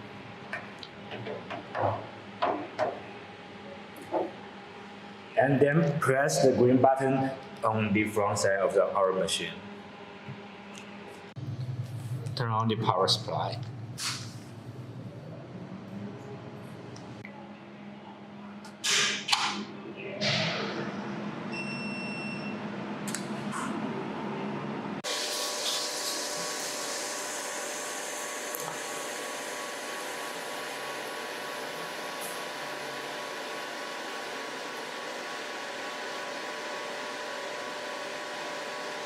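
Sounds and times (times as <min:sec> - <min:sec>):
cooling system whir and hum: 0:00.0 - 0:39.0.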